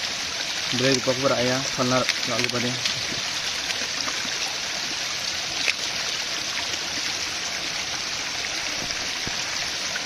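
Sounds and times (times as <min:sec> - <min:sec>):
stream running over rocks: 0:00.0 - 0:10.0.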